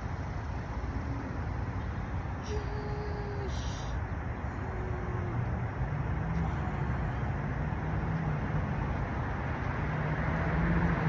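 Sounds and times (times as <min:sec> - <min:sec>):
low engine hum: 0:00.0 - 0:11.0
road noise rush: 0:00.0 - 0:11.0.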